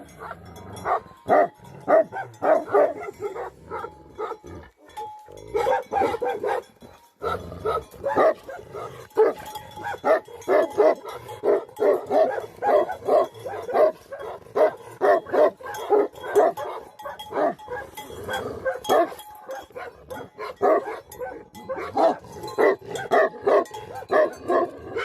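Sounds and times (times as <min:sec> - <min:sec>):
dog barking rapidly: 0:00.9 - 0:04.4, 0:05.6 - 0:18.0, 0:18.6 - 0:25.0.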